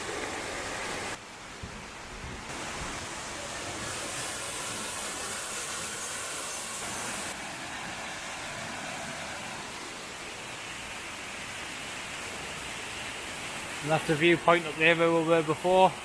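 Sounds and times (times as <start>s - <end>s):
waterfall rushing: 2.5s - 16.0s.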